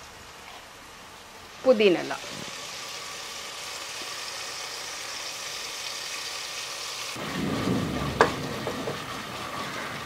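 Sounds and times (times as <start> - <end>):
ghee sizzling in a pot: 0.0 - 10.0.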